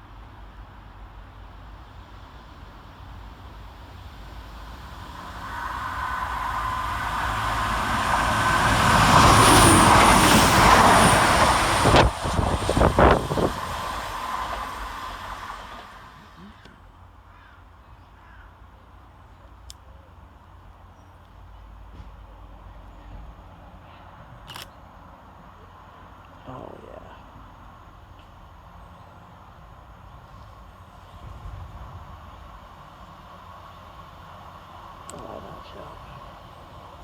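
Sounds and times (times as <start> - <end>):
diesel train passing: 0.0 - 17.8, 24.9 - 37.0.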